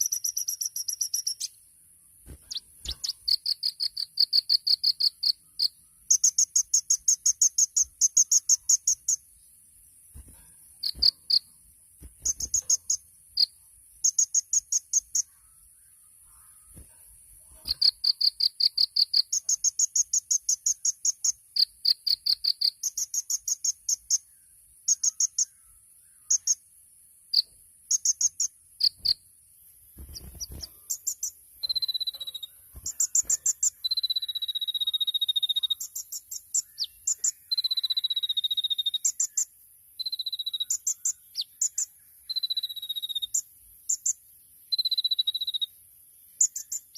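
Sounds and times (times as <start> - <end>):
bird singing rattling trills: 0.0 - 1.7, 2.3 - 26.6, 27.3 - 29.3, 30.0 - 46.9.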